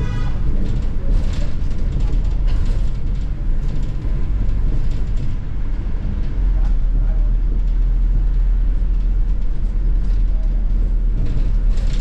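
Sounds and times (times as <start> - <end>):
bus engine rumble: 0.0 - 12.0
road noise: 0.0 - 12.0.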